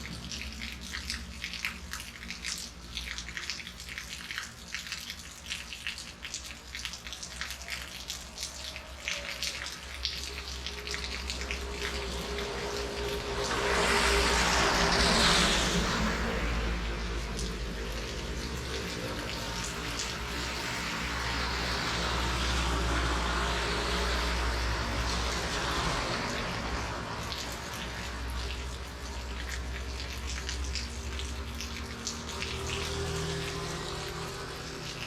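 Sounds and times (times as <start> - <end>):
drips and splashes: 0.0 - 35.0
rain falling: 0.0 - 35.0.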